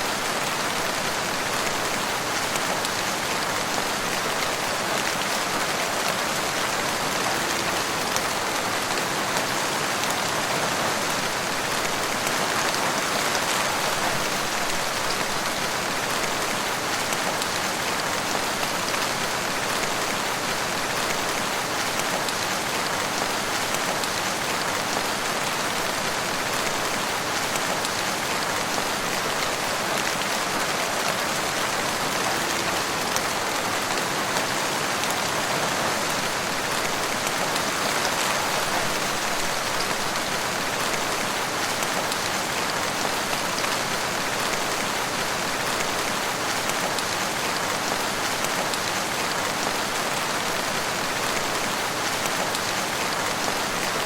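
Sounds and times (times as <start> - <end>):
rain falling in woodland: 0.0 - 54.0.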